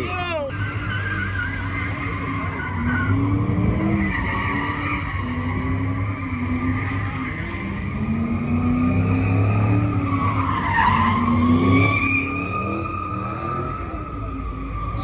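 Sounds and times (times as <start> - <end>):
car tires squealing: 0.0 - 15.0
engine at high revs: 0.0 - 15.0.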